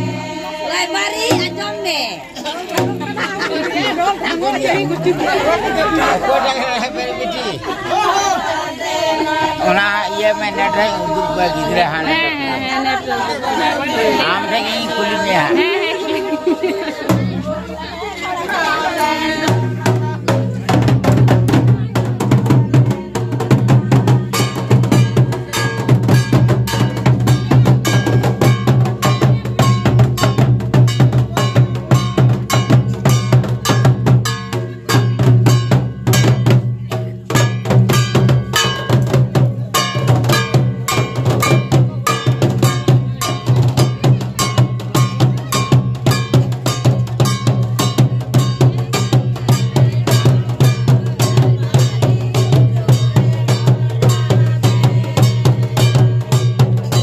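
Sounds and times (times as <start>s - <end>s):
barrel drums in fast rhythm: 0.0s - 6.4s, 14.2s - 57.0s.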